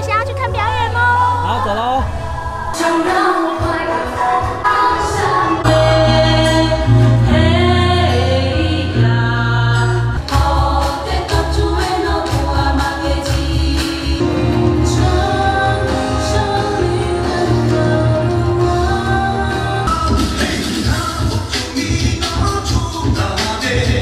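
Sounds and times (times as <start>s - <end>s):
group singing in chorus: 2.1s - 24.0s.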